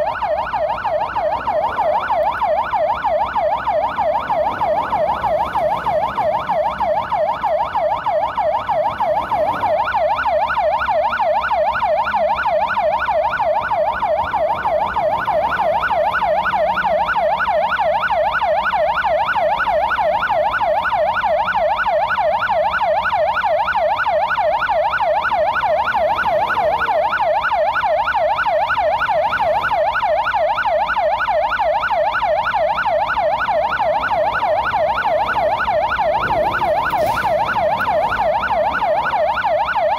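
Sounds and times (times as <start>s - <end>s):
emergency siren yelping: 0.0s - 39.9s.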